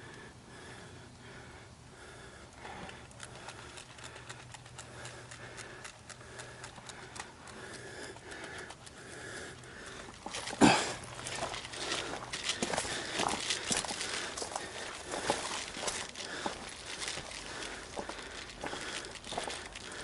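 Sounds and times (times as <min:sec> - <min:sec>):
clicks and rustling of gear: 0:02.6 - 0:20.0.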